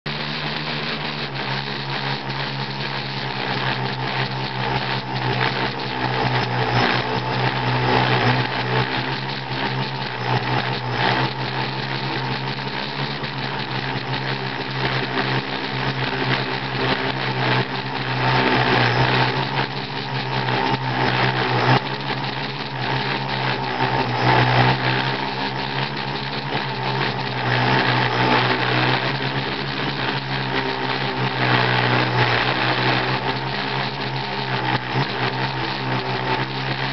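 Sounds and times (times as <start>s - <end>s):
electric motors and propellers humming: 0.1s - 36.9s
propeller whine: 0.1s - 36.9s.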